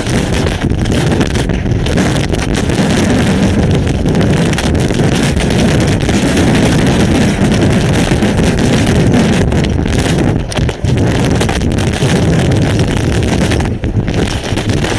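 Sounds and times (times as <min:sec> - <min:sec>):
hail and rain lashing: 0:00.0 - 0:14.9
strong wind on microphone: 0:00.0 - 0:14.9.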